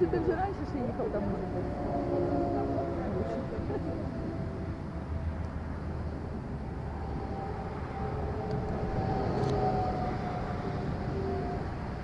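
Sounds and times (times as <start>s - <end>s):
road traffic rumble: 0.0s - 12.0s
vehicle passing by: 0.0s - 12.0s.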